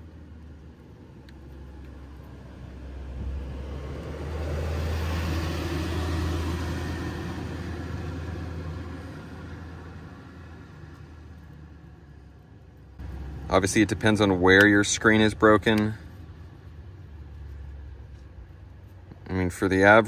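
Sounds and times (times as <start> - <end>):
passing vehicle rumble: 0.0 - 20.0.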